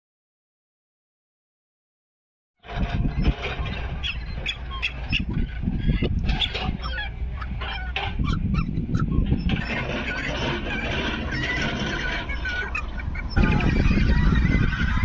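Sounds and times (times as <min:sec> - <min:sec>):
cormorants calling: 0:02.6 - 0:15.0.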